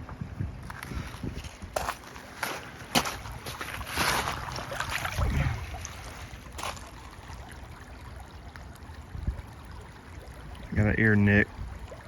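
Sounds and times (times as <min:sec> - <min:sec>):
creek water splashing: 0:01.0 - 0:12.0.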